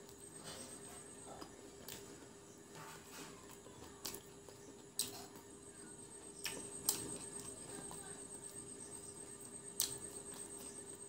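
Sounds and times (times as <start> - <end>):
chewing crispy food: 0.0 - 11.0
faint steady hum: 0.0 - 11.0.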